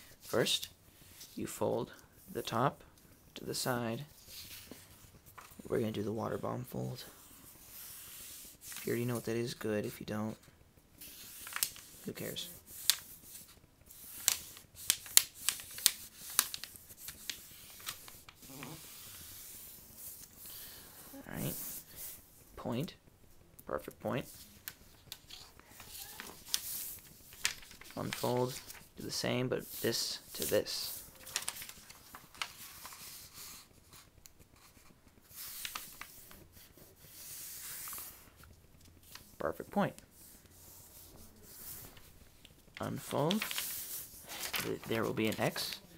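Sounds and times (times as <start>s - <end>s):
paper crackling and folding: 0.0s - 22.4s, 23.8s - 45.9s.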